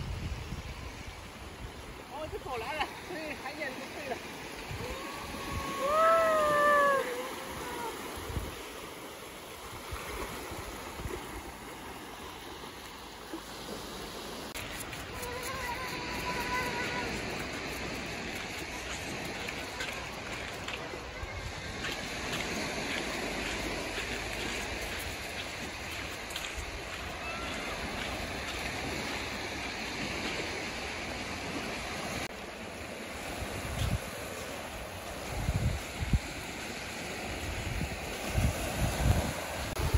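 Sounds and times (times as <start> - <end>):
small waves washing on sand: 0.0 - 39.9.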